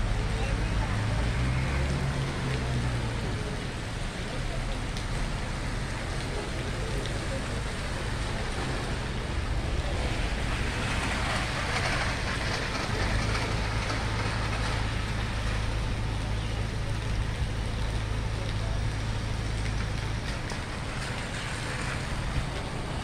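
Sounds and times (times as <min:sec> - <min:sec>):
traffic rumble on wet pavement: 0:00.0 - 0:23.0.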